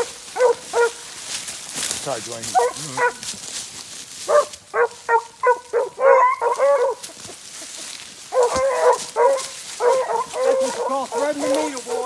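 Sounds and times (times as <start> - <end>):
hounds baying: 0.0 - 1.2, 2.4 - 3.4, 4.2 - 12.0.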